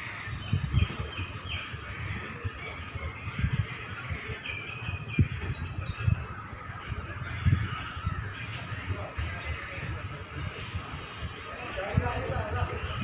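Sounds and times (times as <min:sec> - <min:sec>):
small birds chirping: 0:00.0 - 0:12.1.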